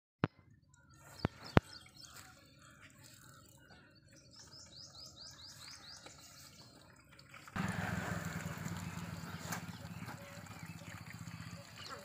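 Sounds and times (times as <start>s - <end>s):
faint outdoor background: 0.2s - 12.0s.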